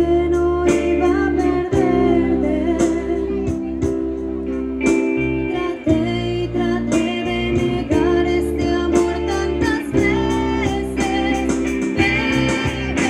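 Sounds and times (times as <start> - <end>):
lead guitar: 0.0 - 13.0
live band playing slow ballad: 0.0 - 13.0.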